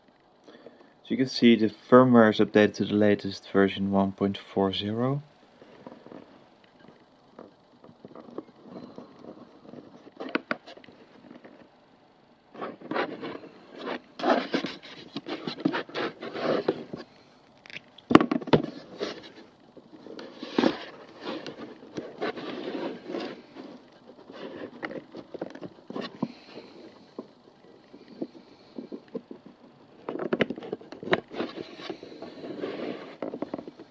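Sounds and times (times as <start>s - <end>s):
cables scraping and rustling: 4.7s - 33.9s.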